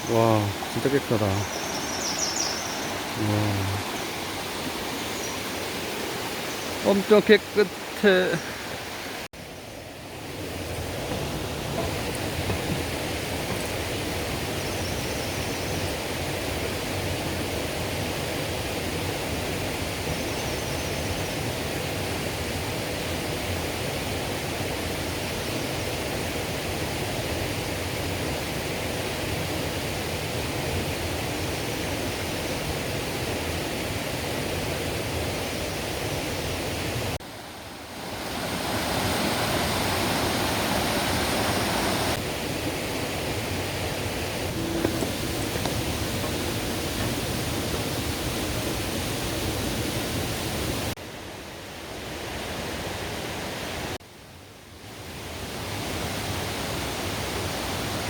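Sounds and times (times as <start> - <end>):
stream rushing over rocks: 0.0 - 54.0, 54.8 - 58.0.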